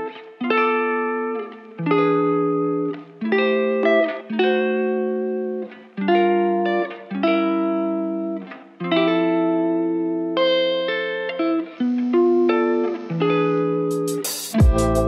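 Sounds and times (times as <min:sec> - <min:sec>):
guitar playing chords: 0:00.0 - 0:15.0.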